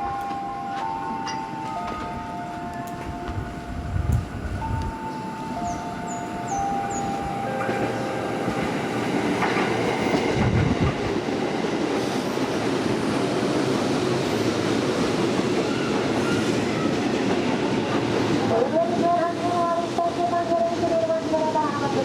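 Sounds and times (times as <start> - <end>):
train wheels clattering on rails: 0.0 - 21.4.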